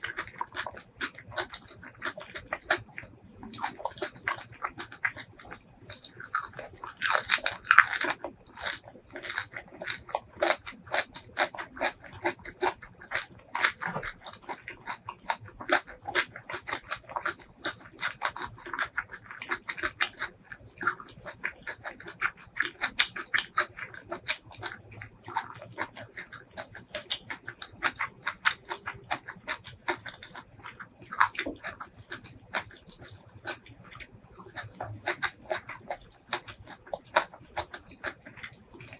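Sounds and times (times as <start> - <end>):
person chewing: 0.0 - 38.9.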